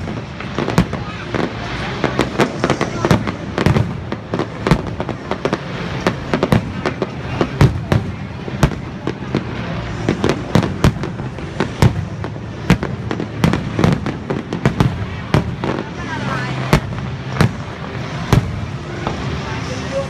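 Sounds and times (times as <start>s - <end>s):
continuous background noise: 0.0s - 20.0s
fireworks bangs: 0.0s - 20.0s.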